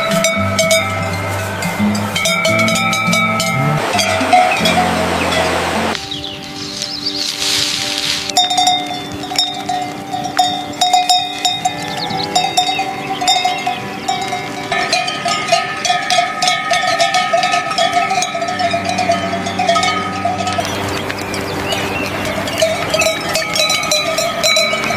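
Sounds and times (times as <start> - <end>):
cowbell-like ticking percussion: 0.0 - 5.5, 8.3 - 24.9
held chords: 0.0 - 24.9.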